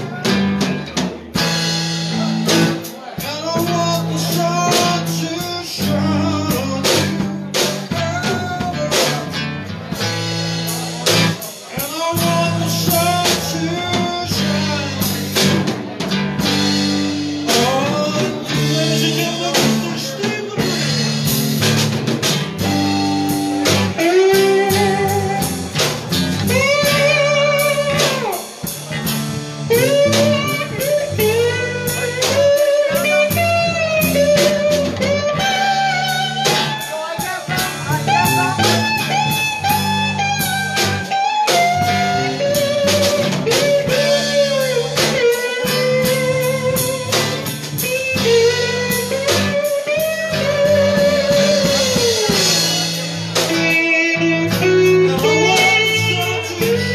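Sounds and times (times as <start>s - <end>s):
bass guitar: 0.0s - 56.9s
drum kit: 0.0s - 56.9s
electric guitar bending notes: 0.0s - 56.9s.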